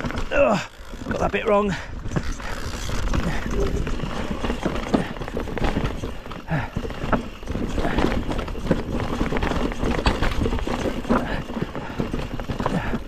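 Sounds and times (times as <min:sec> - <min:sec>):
bike knocking on roots: 0:00.0 - 0:13.0
mountain bike rattling: 0:00.0 - 0:13.0
tyres rumbling on dirt: 0:00.0 - 0:13.0.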